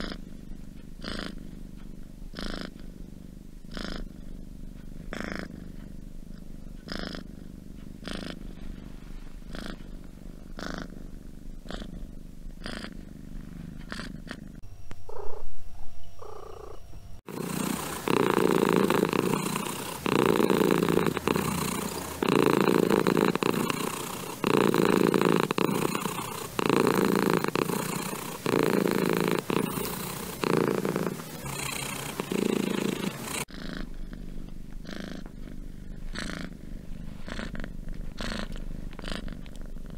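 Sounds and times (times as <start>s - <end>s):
cat purring: 0.0s - 15.5s, 16.1s - 39.9s.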